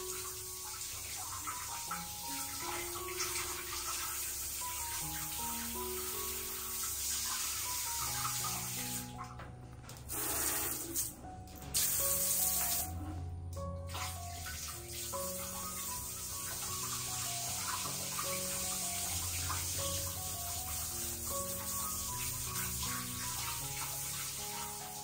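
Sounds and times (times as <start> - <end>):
slow melodic background music: 0.0 - 25.0
water running from a tap: 0.0 - 25.0.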